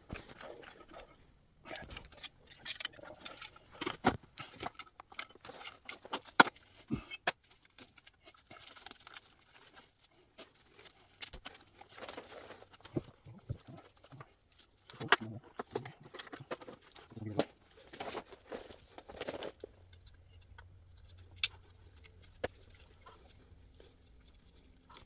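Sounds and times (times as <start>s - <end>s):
hands working with tools: 0.0s - 25.0s.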